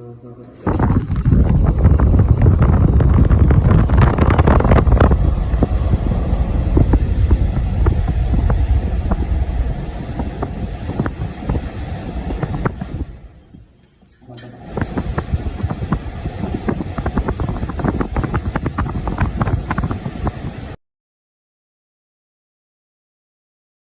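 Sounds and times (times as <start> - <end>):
air conditioner blower rumble: 0.0 - 20.8.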